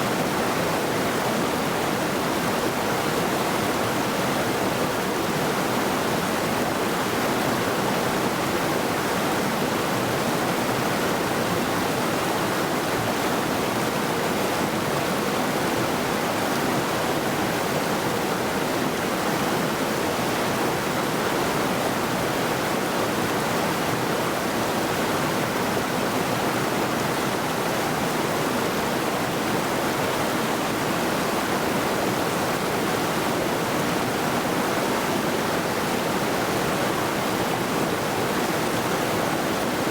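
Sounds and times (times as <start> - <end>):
river rushing over rocks: 0.1 - 39.9.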